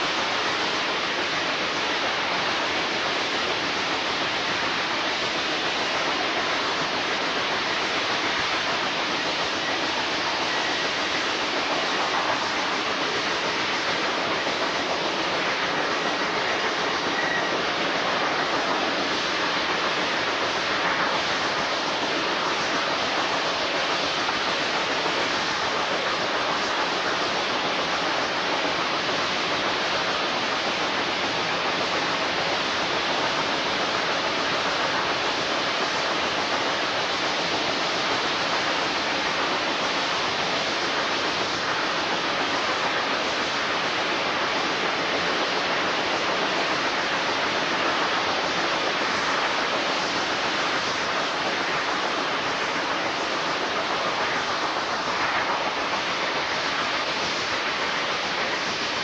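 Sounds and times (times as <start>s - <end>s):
steam train rushing noise: 0.0s - 59.0s.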